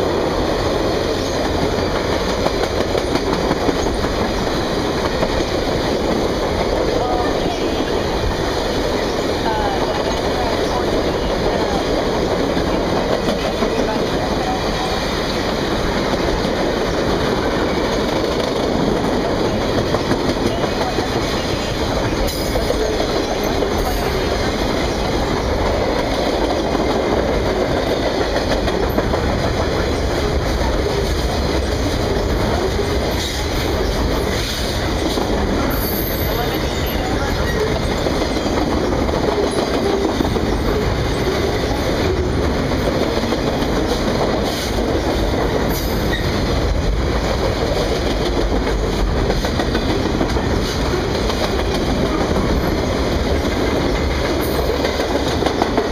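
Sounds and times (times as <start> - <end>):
train wheels clacking on rails: 0.0 - 55.9.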